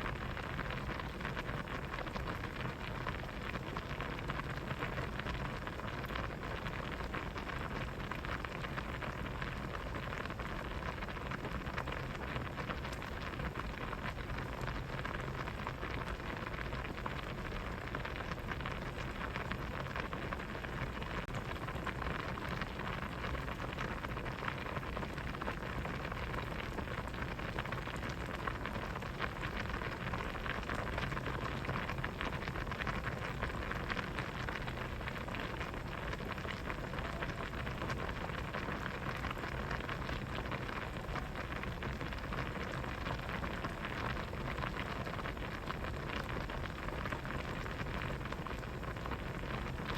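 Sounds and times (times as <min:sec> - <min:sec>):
soup boiling with bubbles popping: 0:00.0 - 0:49.9.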